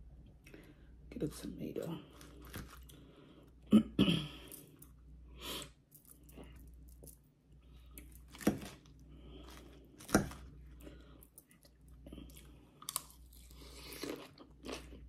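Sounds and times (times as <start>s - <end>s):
person chewing: 2.1s - 3.7s, 4.4s - 15.0s.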